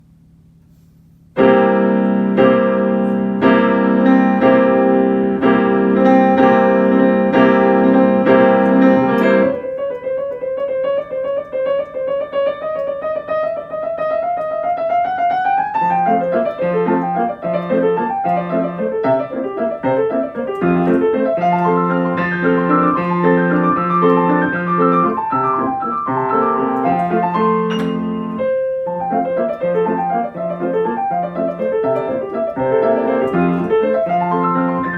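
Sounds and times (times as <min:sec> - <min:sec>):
solo piano waltz: 0:01.3 - 0:34.9.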